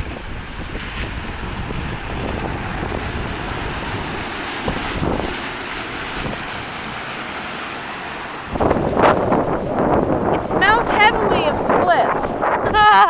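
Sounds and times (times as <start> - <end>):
rushing wind and water: 0.0 - 13.0
wind buffeting microphone: 0.0 - 13.0.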